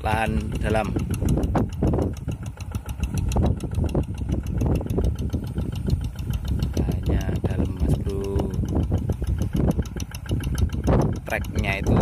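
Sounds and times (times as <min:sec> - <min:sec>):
diesel engine knocking steadily: 0:00.0 - 0:12.0.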